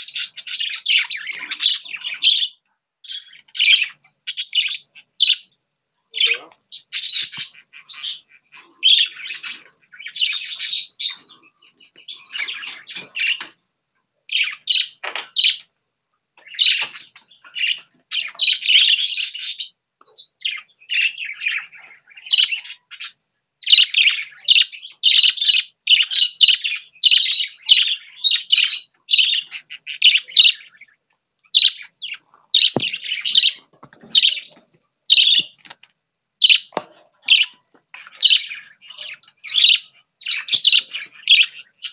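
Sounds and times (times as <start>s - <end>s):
budgerigars chirping: 0.0s - 13.6s, 14.3s - 15.7s, 16.4s - 35.8s, 36.4s - 41.9s.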